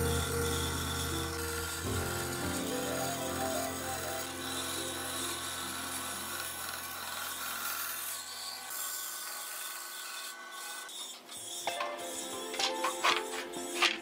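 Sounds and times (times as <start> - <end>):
motor hum: 0.0 - 14.0
saw blade rasping through wood: 0.0 - 14.0.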